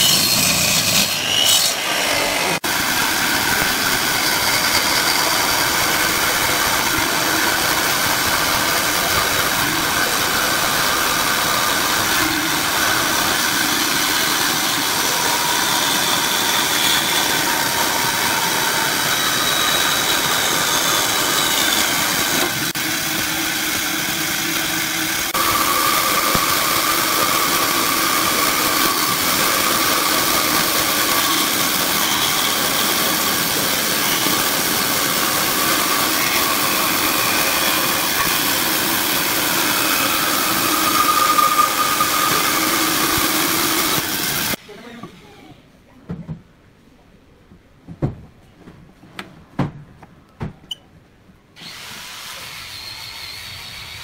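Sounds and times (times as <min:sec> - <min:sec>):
bandsaw cutting wood: 0:00.0 - 0:44.6.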